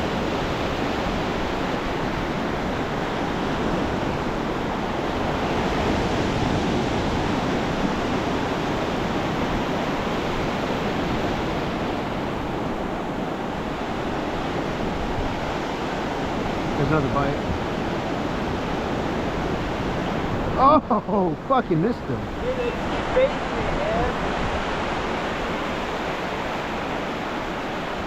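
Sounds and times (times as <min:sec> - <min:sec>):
wind on microphone: 0:00.0 - 0:20.8, 0:21.4 - 0:28.0
ocean waves breaking: 0:00.0 - 0:28.0.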